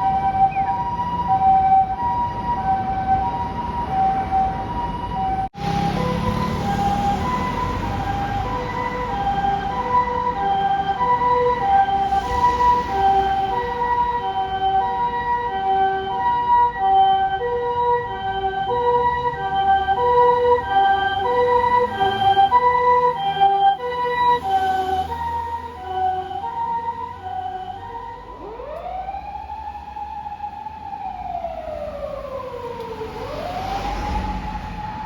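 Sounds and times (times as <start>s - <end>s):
two-tone ambulance siren: 0.0s - 35.0s.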